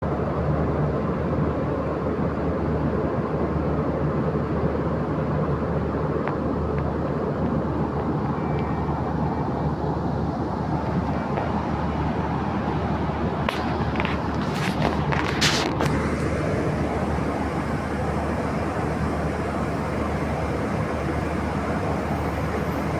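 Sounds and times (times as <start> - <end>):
train rumbling: 0.1 - 22.9.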